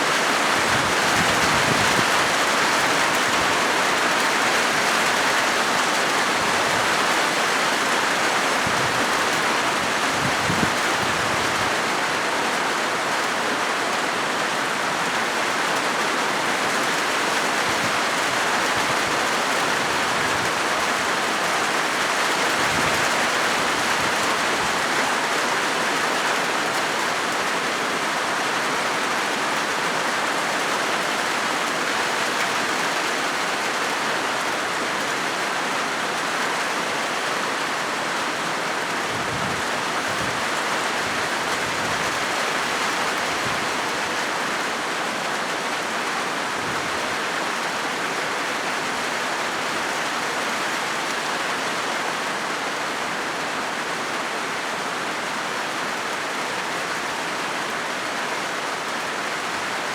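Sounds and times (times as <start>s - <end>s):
rain drumming on a metal roof: 0.0s - 59.9s.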